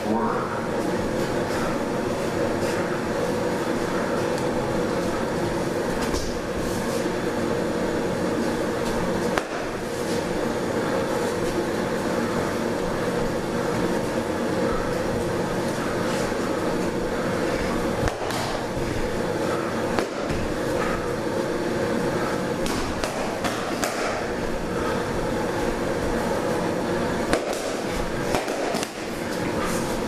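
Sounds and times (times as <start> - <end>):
droning room noise: 0.0 - 30.0.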